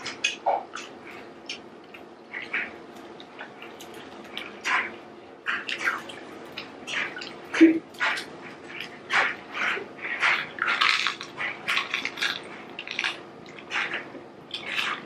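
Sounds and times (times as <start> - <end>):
wet chewing and mouth smacks: 0.0 - 15.0.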